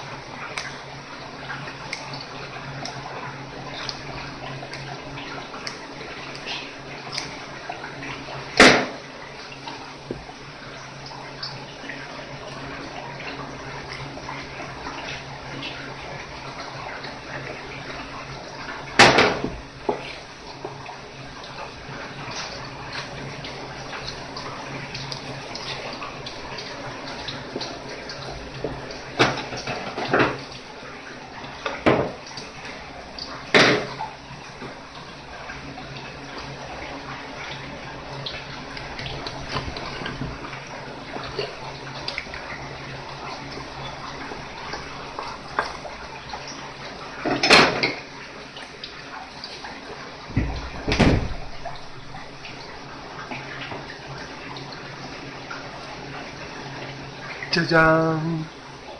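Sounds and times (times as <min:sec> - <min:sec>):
water running from a tap: 0:00.0 - 0:58.9.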